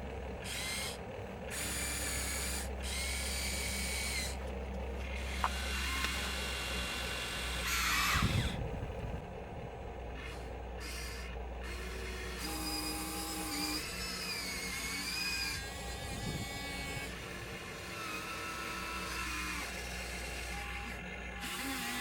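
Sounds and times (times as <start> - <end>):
small electric motors whining: 0.0 - 9.3, 10.1 - 22.0
low hum: 0.0 - 21.8.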